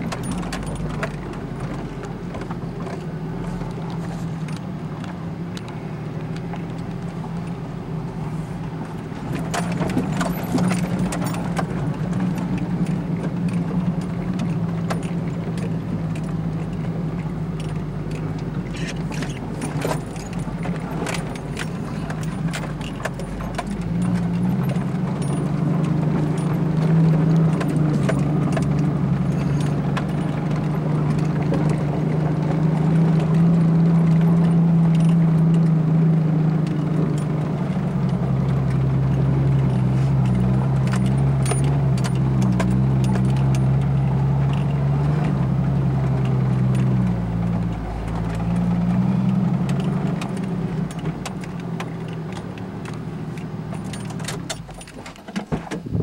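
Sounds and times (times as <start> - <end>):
rattles and knocks from bumping: 0.0 - 5.2, 8.7 - 35.8, 36.7 - 56.0
vehicle engine running: 0.0 - 56.0.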